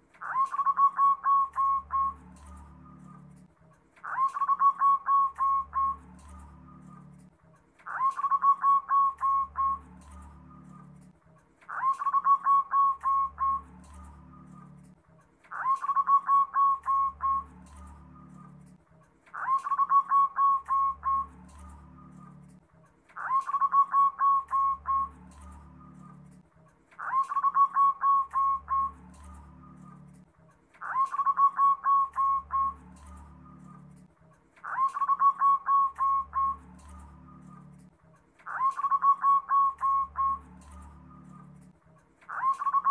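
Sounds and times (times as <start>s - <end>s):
dove cooing song: 0.2s - 26.4s, 27.0s - 42.9s.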